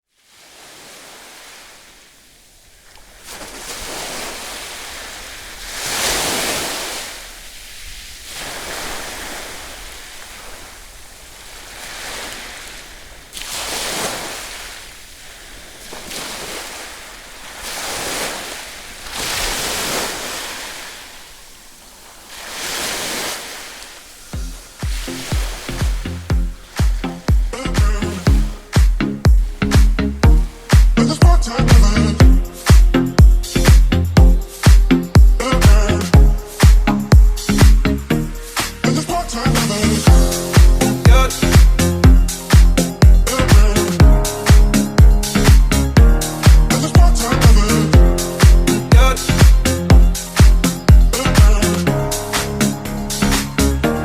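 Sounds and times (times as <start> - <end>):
ocean waves breaking: 0.1 - 54.0.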